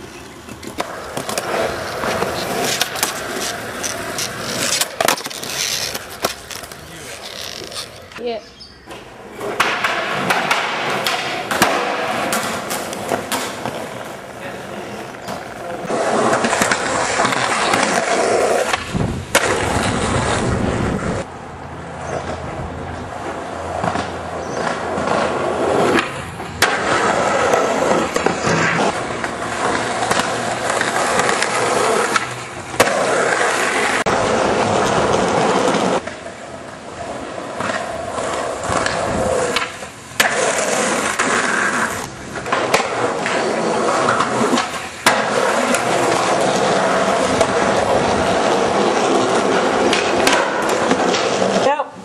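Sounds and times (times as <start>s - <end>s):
skateboard clacks: 0.0s - 8.2s, 8.9s - 20.6s, 22.0s - 52.0s
skateboard wheels rolling: 0.0s - 52.0s.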